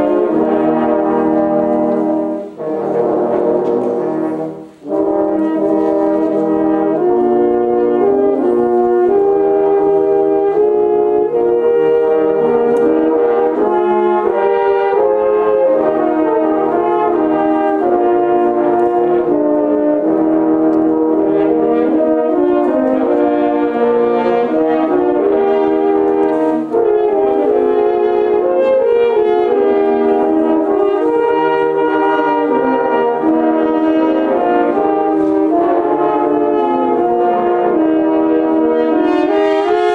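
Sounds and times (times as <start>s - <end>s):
french horn ensemble playing: 0.0s - 39.9s.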